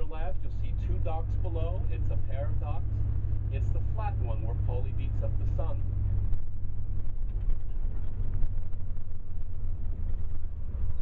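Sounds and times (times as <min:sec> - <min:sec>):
bus engine and tyres rumbling: 0:00.0 - 0:11.0.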